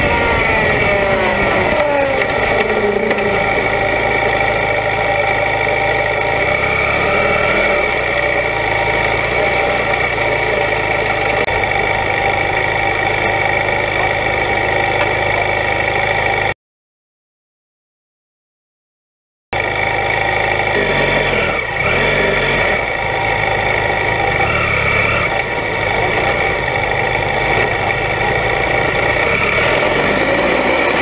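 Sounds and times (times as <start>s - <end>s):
motorcycle engine running: 0.0s - 16.5s, 19.6s - 31.0s.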